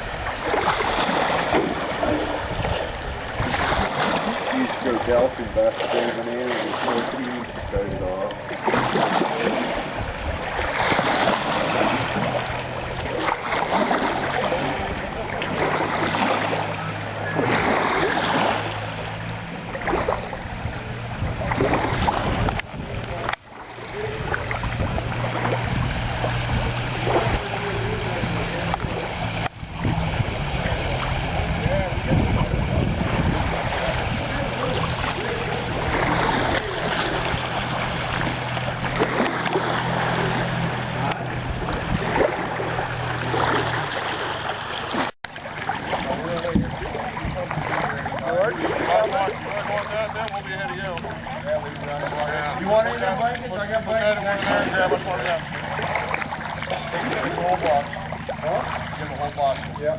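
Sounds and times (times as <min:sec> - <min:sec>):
motorboat engine running: 0:00.0 - 0:59.9
water noise: 0:00.0 - 0:59.9.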